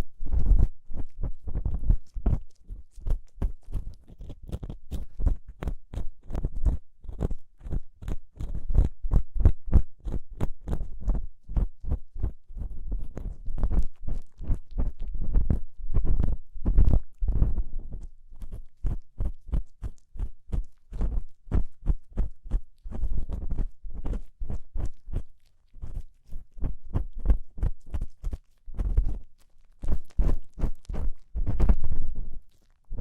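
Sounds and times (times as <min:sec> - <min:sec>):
ear pick scratching microphone: 0:00.0 - 0:33.0.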